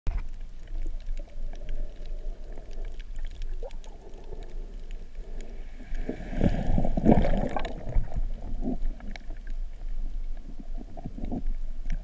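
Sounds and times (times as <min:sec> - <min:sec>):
faint underwater clicks: 0:00.1 - 0:12.0
underwater rumble of moving water: 0:00.1 - 0:12.0.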